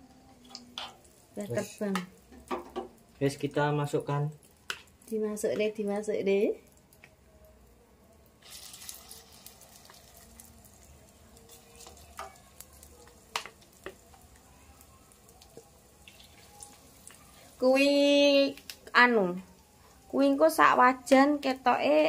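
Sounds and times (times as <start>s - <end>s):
batter sizzling in hot oil: 0.4s - 7.1s, 8.2s - 22.0s.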